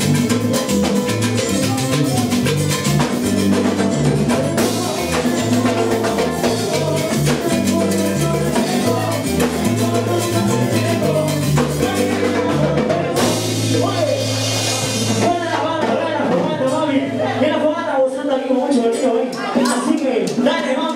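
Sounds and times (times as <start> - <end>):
drums and percussion: 0.0 - 17.4, 19.3 - 20.9
bass line: 0.0 - 18.2
salsa band playing: 0.0 - 20.9.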